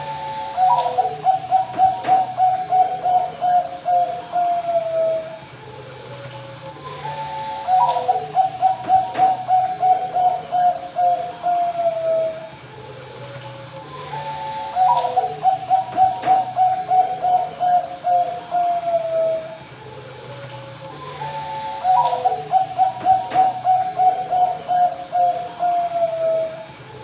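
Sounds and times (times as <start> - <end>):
dove cooing: 0.0 - 5.4, 6.1 - 12.6, 13.2 - 19.6, 20.2 - 26.8.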